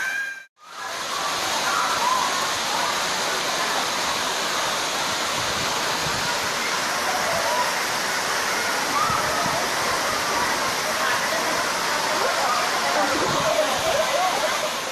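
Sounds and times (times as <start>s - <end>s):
waterfall rushing: 0.6s - 14.9s
faint voices: 0.9s - 14.9s.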